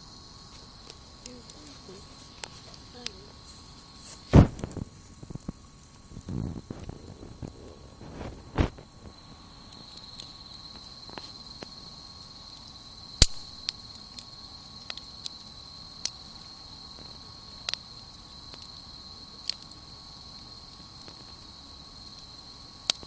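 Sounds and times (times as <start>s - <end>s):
campfire crackling and popping: 0.0s - 23.0s
high insect trill: 0.0s - 23.0s.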